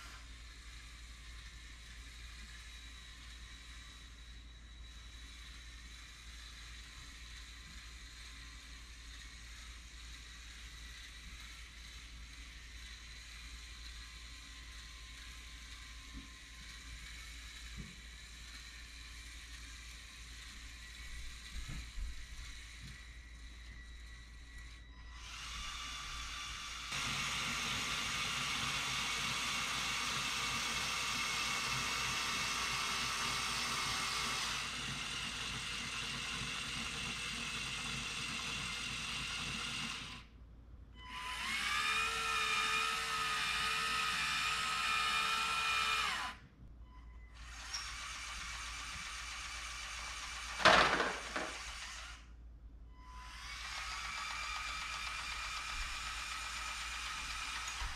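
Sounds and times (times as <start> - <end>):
small electric motors whining: 0.0 - 40.4, 41.0 - 57.9.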